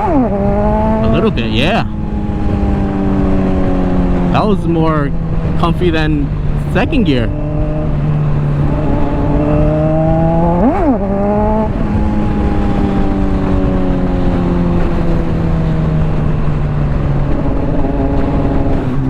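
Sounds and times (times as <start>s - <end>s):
motorcycle engine revving: 0.0s - 19.0s
wind rush on microphone: 0.0s - 19.0s.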